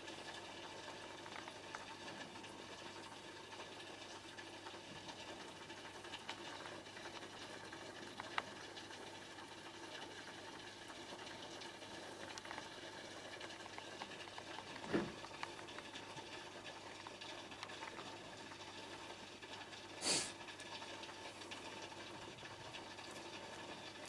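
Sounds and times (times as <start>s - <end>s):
aquarium water bubbling: 0.0s - 24.0s.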